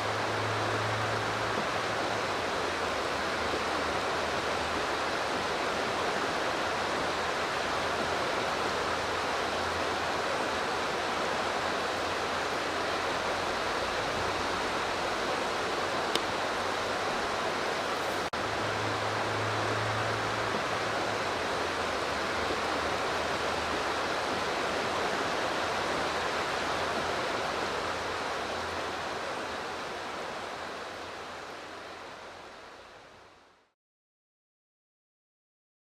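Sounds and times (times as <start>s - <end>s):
flowing river water: 0.0s - 33.7s.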